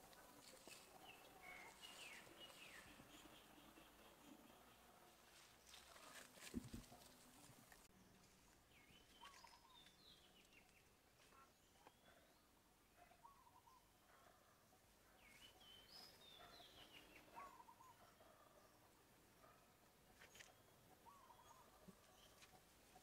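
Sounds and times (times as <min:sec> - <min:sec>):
forest birdsong: 0:00.0 - 0:23.0.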